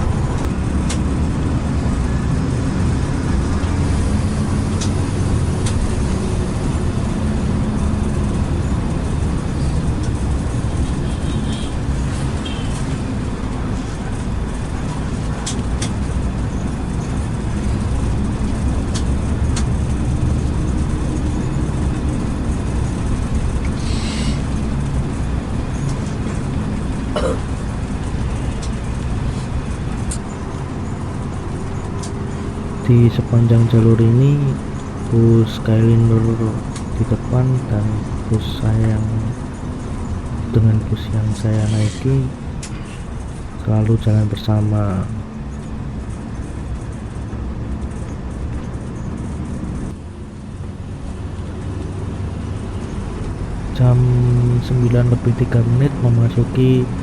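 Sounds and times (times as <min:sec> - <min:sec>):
bus engine drone: 0:00.0 - 0:57.0
road noise: 0:00.0 - 0:57.0.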